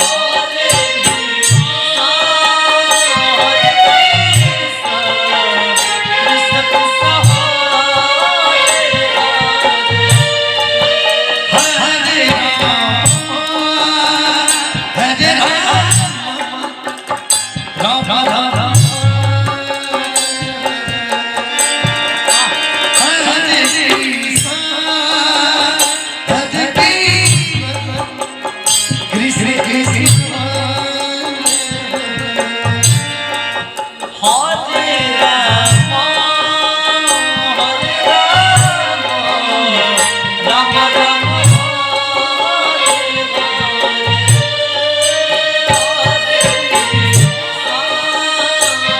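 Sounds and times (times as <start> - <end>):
tabla drumming: 0.0 - 48.9.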